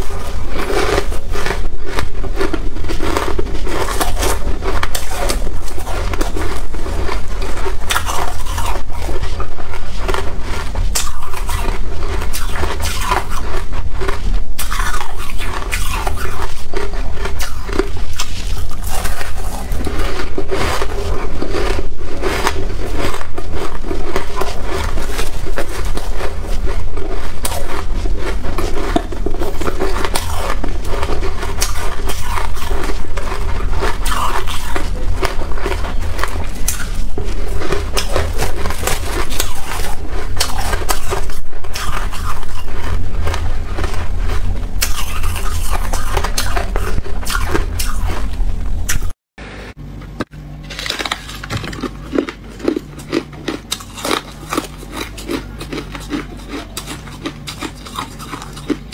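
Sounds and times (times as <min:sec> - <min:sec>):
scraping frost from a bowl: 0:00.0 - 0:48.9
frost being crunched and chewed: 0:00.0 - 0:49.2, 0:50.6 - 0:58.9.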